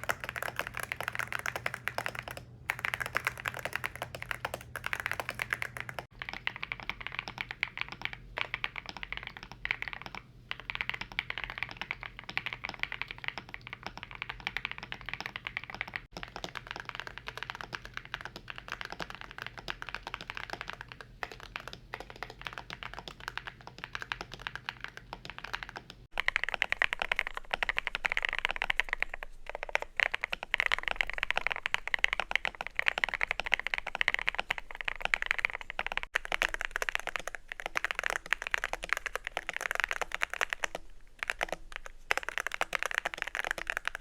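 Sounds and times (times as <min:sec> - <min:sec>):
mechanical keyboard typing: 0:00.0 - 0:44.0.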